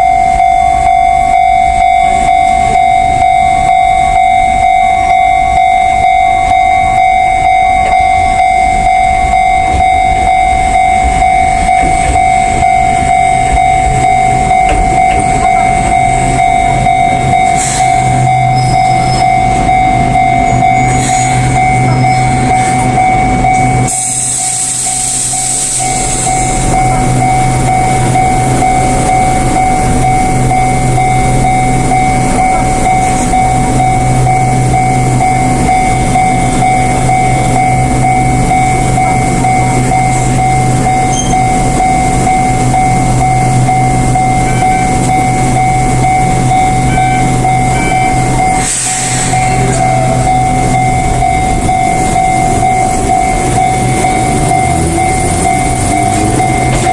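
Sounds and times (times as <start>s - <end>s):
level crossing alarm bell ringing: 0.0s - 56.9s
train passing: 0.0s - 56.9s.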